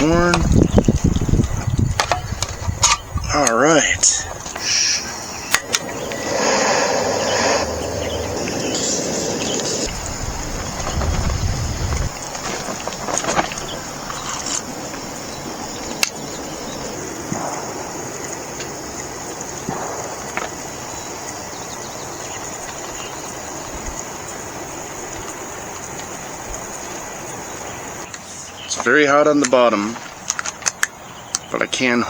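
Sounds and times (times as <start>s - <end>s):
high-pitched hiss: 2.1s - 29.9s.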